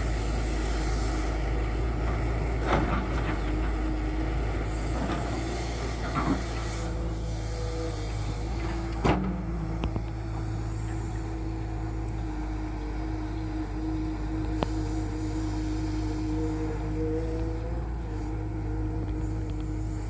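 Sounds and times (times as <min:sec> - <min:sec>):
engine whine: 0:00.0 - 0:20.0
excavator diesel engine running: 0:00.0 - 0:20.0.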